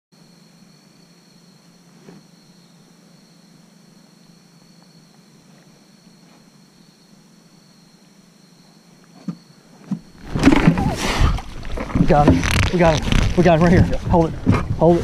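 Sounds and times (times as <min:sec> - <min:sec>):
insect chorus trilling: 0:00.2 - 0:15.0
low steady hum: 0:00.2 - 0:15.0.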